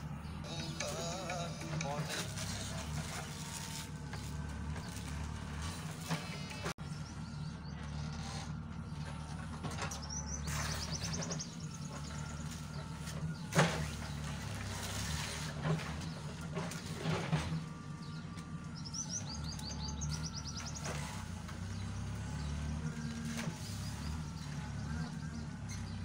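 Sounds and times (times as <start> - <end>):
birds chirping: 0.0 - 26.0
diesel engine running: 0.0 - 26.0.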